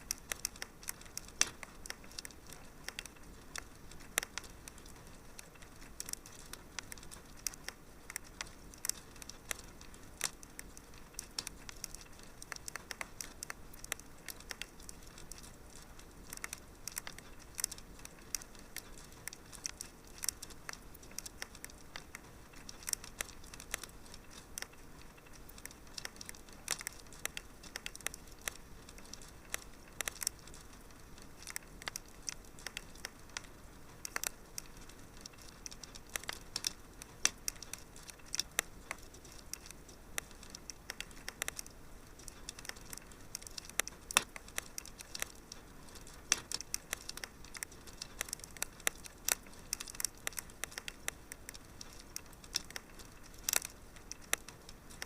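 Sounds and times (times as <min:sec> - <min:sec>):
soft hiss: 0:00.0 - 0:55.0
wood fire crackling: 0:00.0 - 0:55.0.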